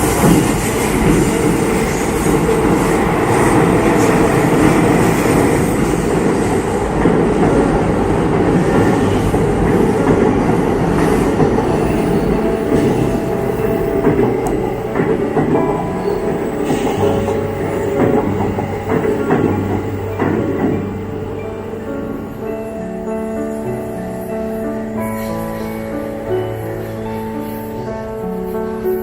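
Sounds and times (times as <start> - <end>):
electric train passing: 0.0 - 29.0.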